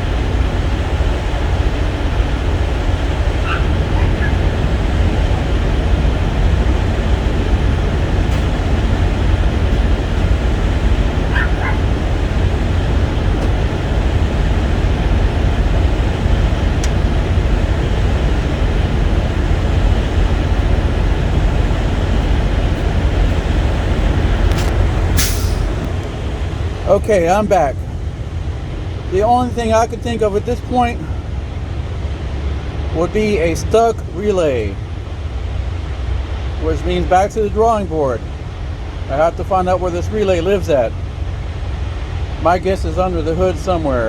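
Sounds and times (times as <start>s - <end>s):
loud low rumble: 0.0s - 44.0s.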